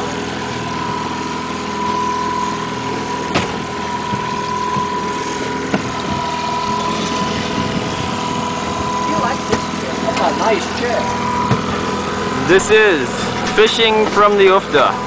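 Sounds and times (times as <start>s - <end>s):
boat engine running: 0.0s - 15.0s
high whine: 0.0s - 15.0s.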